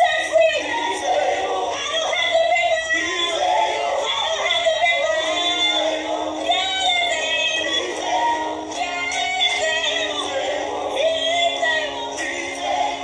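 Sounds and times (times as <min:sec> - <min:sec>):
music accompaniment: 0:00.0 - 0:13.0
voices singing worship song: 0:00.0 - 0:13.0.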